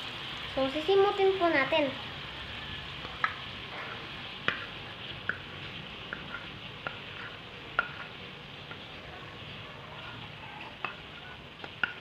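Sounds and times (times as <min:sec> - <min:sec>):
margarine sizzling in a pan: 0:00.0 - 0:12.0.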